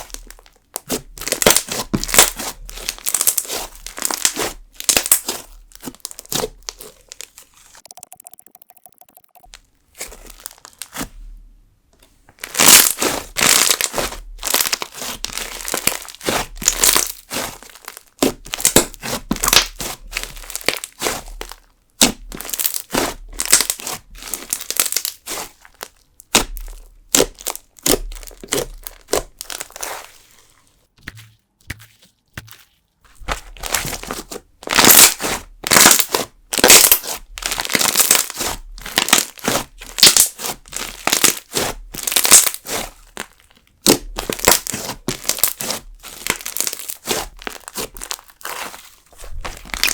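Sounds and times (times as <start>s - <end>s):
slime crackling and popping: 0.0s - 11.1s, 12.4s - 30.0s, 33.2s - 49.9s.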